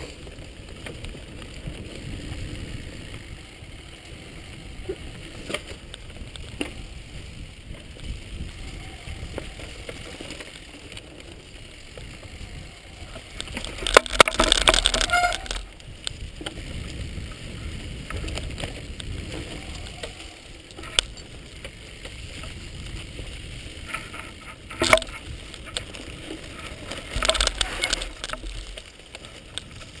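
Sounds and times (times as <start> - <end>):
bike rattling over bumps: 0.0 - 30.0
tyres rumbling on dirt trail: 0.0 - 30.0.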